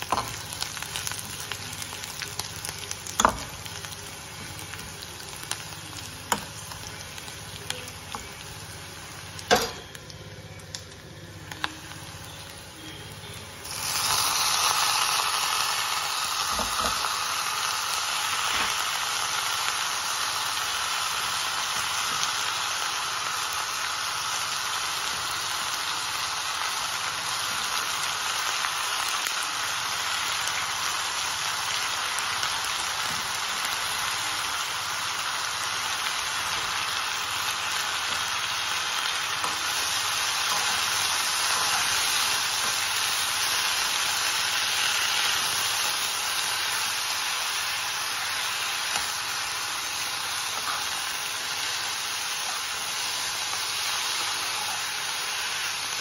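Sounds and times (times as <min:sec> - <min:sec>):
greens sizzling in a pan: 0:00.0 - 0:56.0.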